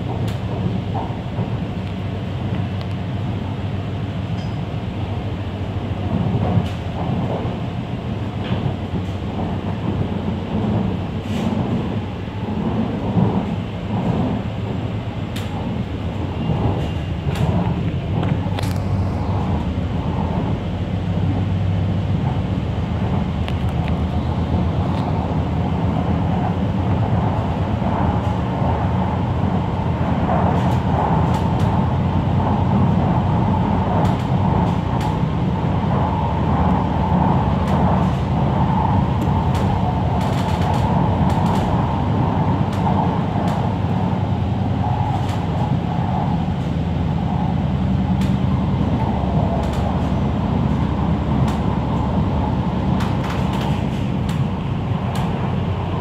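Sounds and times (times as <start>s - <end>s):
train running inside carriage: 0.0s - 56.0s.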